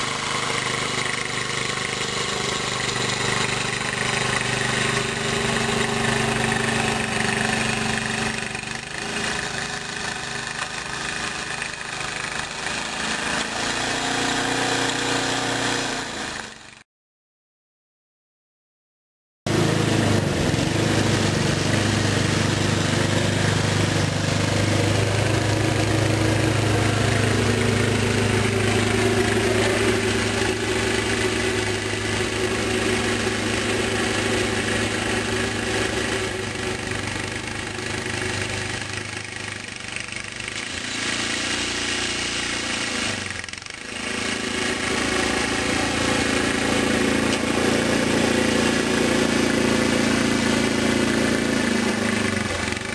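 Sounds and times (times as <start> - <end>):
snow blower engine running: 0.0 - 16.8, 19.5 - 52.9.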